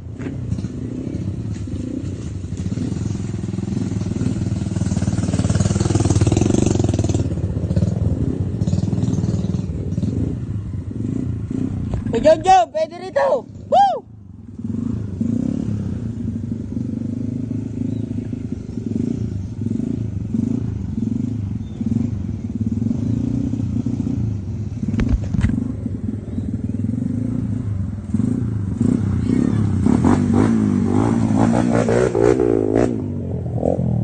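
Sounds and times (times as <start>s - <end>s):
dirt bike engine revving: 0.2s - 13.1s, 14.4s - 34.0s.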